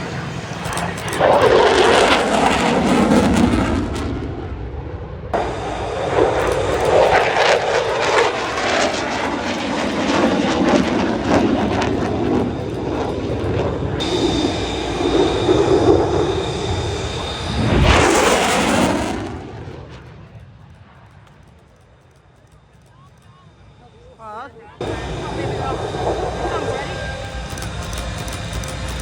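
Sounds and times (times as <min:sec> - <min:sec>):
airplane engine roar flying past: 0:00.0 - 0:29.0
steady high whine: 0:00.0 - 0:29.0.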